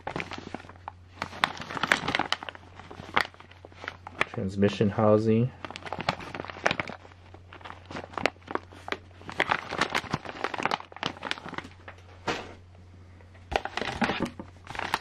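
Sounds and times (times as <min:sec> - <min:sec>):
plastic bags crinkling: 0:00.0 - 0:12.0, 0:13.5 - 0:15.0.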